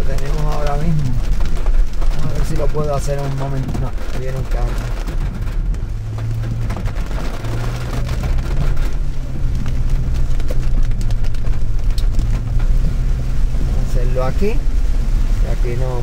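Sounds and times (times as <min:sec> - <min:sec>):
car engine and road hum: 0:00.0 - 0:16.0
rain ticking on car: 0:00.0 - 0:16.0.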